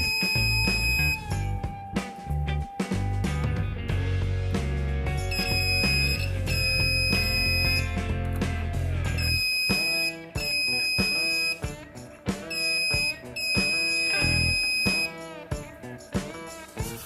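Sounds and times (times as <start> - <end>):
heavy bass line: 0.0 - 11.6, 12.6 - 15.1.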